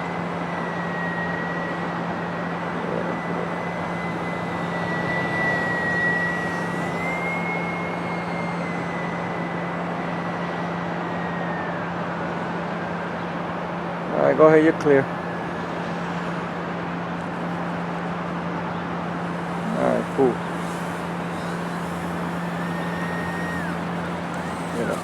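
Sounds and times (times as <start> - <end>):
steady rushing noise: 0.0 - 11.3, 12.0 - 25.0
electric propeller motor whining: 0.0 - 25.0.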